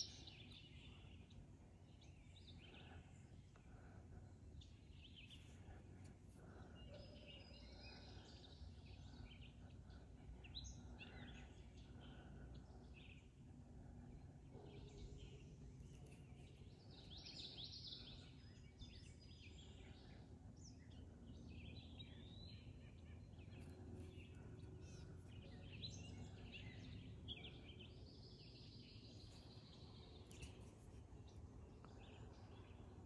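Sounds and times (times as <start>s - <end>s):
low background rumble: 0.0s - 33.0s
songbirds chirping: 0.0s - 33.0s.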